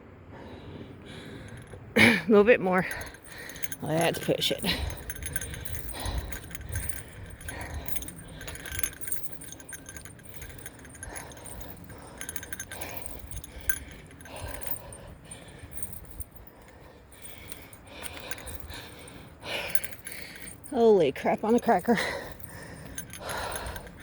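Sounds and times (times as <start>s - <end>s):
heavy breathing: 0.2s - 24.0s
bell jingling: 1.2s - 1.8s, 2.4s - 24.0s.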